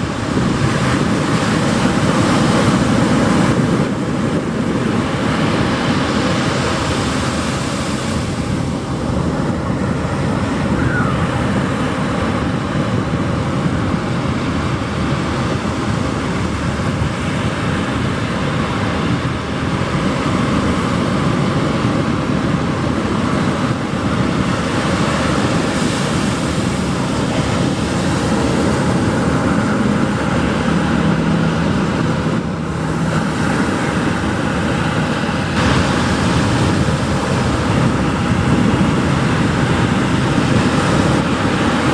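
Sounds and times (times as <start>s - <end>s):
ocean surf breaking: 0.0s - 41.9s.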